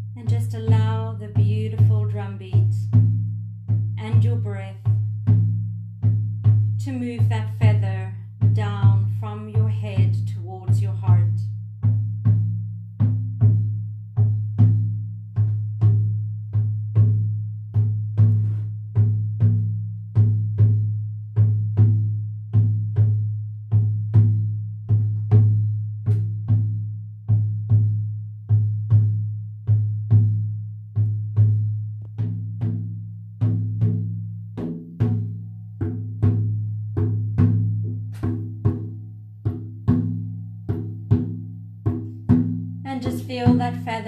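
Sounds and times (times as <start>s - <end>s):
frame drum beating: 0.0s - 44.0s.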